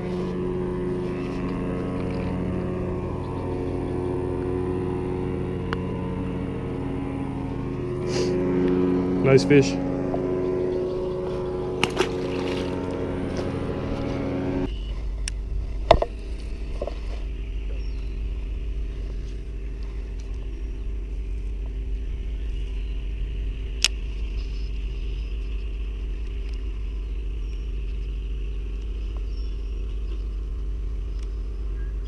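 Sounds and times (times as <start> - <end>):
low rumble: 0.0 - 32.0
motor hum: 0.0 - 32.0.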